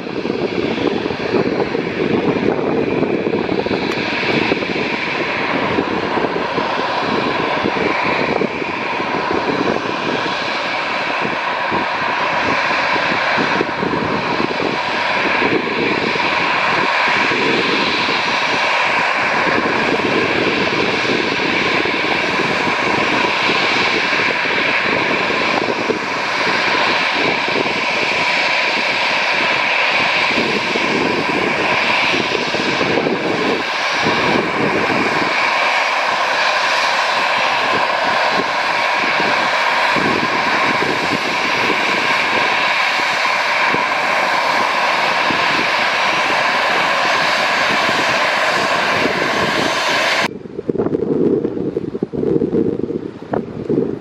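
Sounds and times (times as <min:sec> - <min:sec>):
jet engines whining: 0:00.0 - 0:54.0
low rumble: 0:00.0 - 0:54.0.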